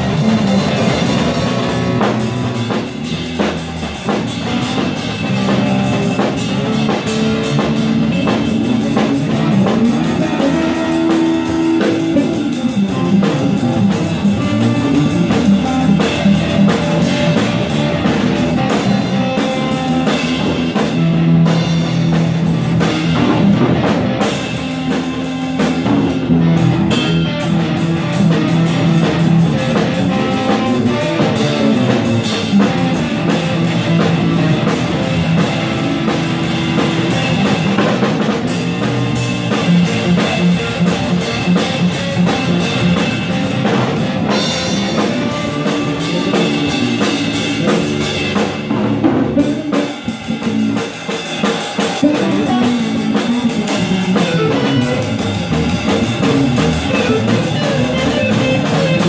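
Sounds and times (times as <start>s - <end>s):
drum kit playing: 0.0s - 59.0s
rock guitar: 0.0s - 59.0s.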